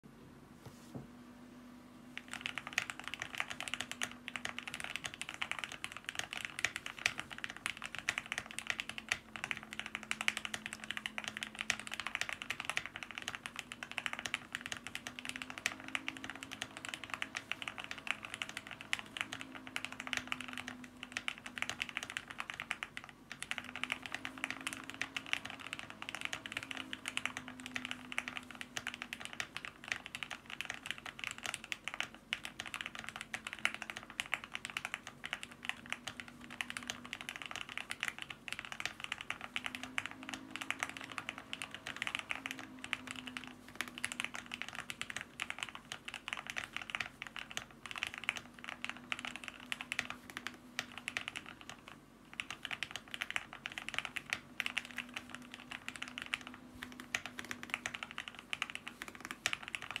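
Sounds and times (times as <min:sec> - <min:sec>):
rapid mechanical keyboard typing: 0:02.1 - 1:00.0.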